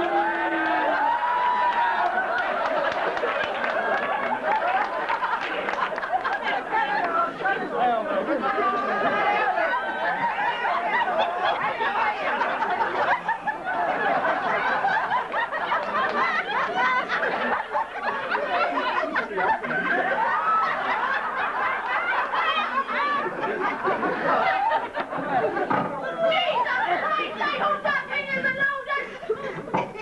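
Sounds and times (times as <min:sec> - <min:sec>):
audience laughing: 0:00.0 - 0:30.0.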